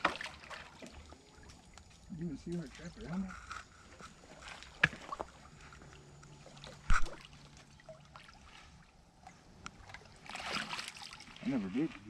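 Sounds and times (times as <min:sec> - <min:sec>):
water sloshing around wading person: 0:00.0 - 0:12.0.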